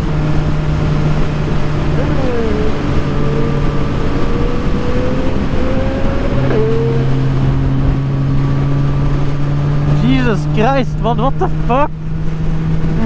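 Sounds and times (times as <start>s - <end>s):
constant rushing noise: 0.0s - 13.0s
motorcycle engine running: 0.0s - 13.0s.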